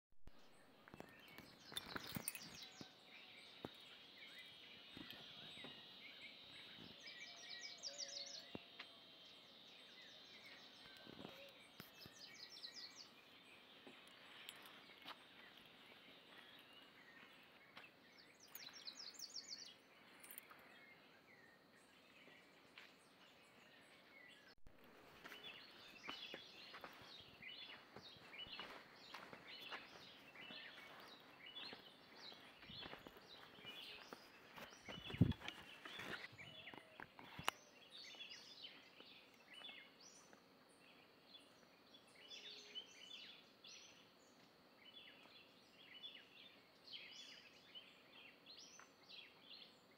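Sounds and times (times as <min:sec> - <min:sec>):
birds chirping and calling: 0:00.8 - 0:24.5, 0:25.2 - 0:44.0.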